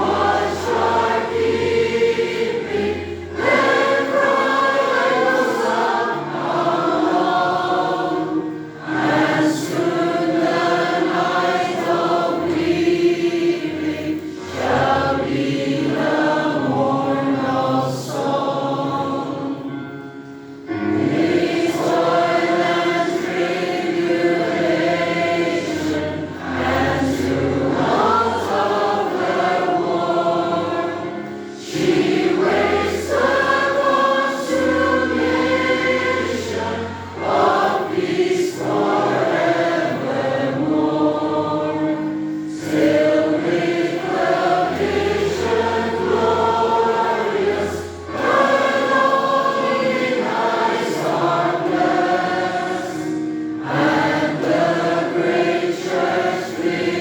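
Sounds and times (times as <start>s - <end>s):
group singing a hymn: 0.0s - 57.0s.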